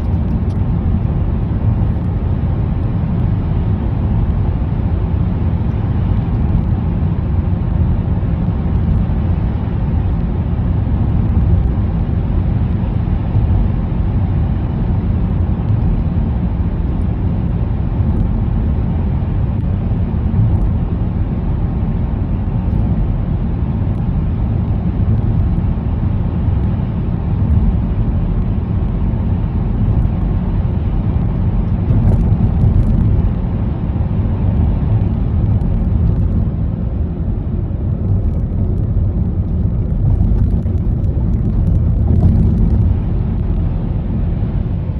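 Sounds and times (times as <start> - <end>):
car driving through tunnel: 0.0 - 44.9.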